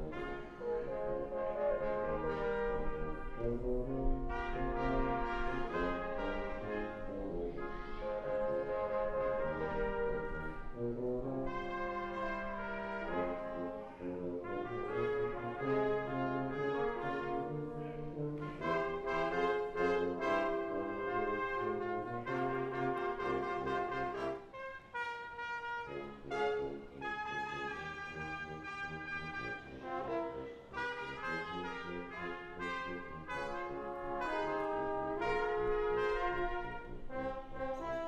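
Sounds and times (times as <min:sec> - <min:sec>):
brass quintet playing chords: 0:00.0 - 0:38.0.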